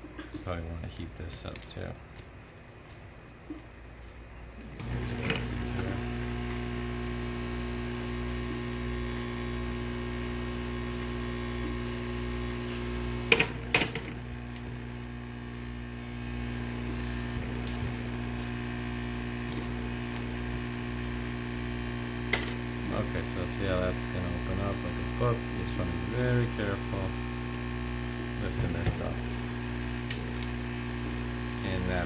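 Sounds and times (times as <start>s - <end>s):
heat gun humming: 4.8s - 32.0s.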